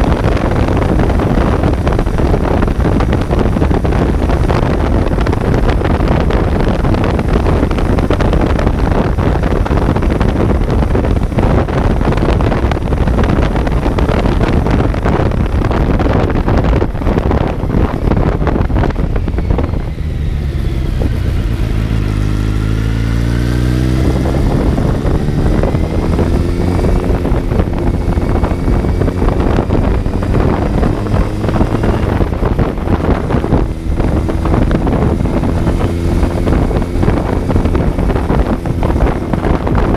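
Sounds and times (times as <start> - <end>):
motorcycle engine while riding: 0.0 - 39.9
wind noise on microphone: 0.0 - 39.9.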